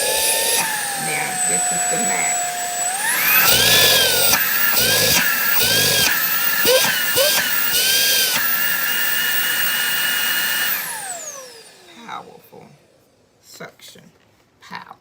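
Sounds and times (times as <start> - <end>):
vacuum motor high whine: 0.0 - 12.9.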